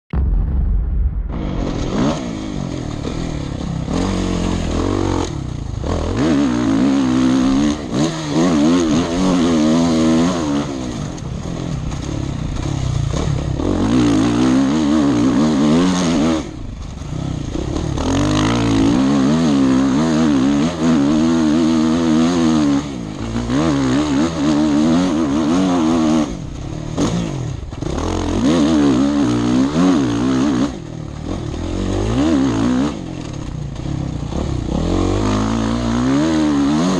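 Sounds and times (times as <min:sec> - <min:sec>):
motorcycle engine revving: 0:01.2 - 0:36.9.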